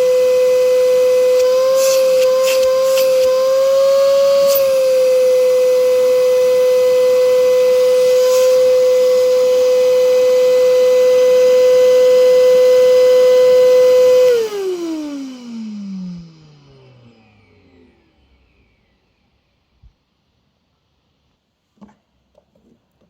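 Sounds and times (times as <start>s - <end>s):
vacuum cleaner motor whining: 0.0s - 20.1s.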